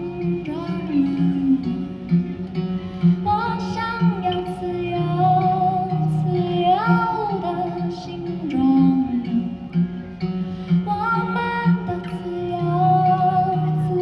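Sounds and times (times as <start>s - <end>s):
woman singing wordless melody: 0.0s - 10.1s, 10.7s - 14.0s
plucked acoustic guitar: 0.0s - 14.0s.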